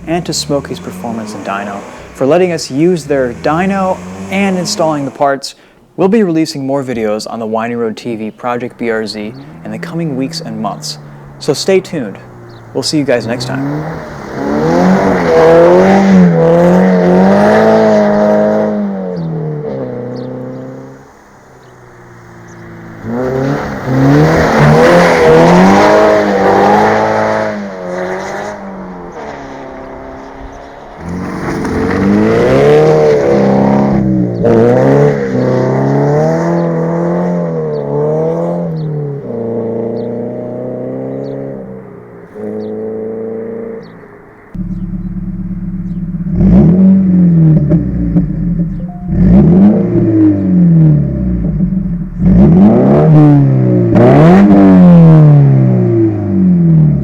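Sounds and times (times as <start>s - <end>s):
car engine revving: 0.0s - 5.3s, 7.3s - 57.0s.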